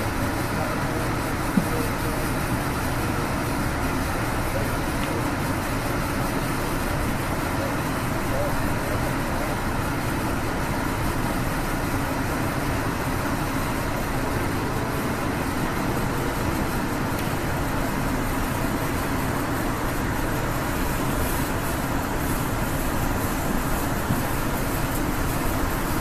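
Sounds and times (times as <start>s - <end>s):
train car rumbling on rails: 0.0s - 26.0s.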